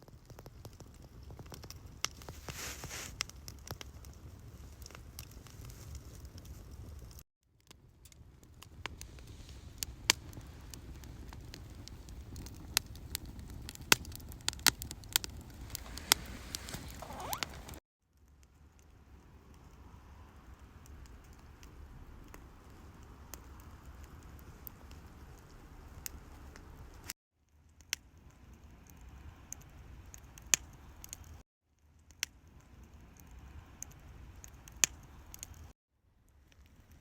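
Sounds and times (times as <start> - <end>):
campfire crackling and popping: 0.0 - 17.8, 20.5 - 27.0, 27.8 - 31.4, 32.0 - 35.7, 36.4 - 37.0.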